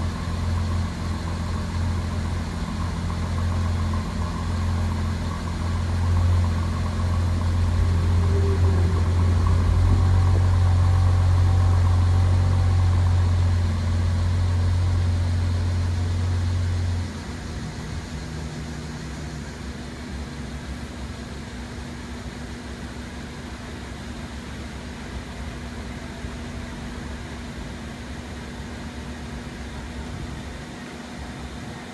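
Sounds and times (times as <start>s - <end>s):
car engine idling: 0.0s - 30.1s.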